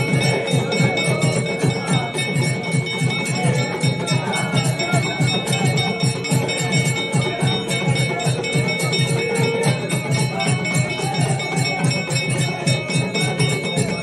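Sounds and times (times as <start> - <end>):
fast steady drumbeat: 0.0 - 14.0
temple bells ringing: 0.0 - 14.0.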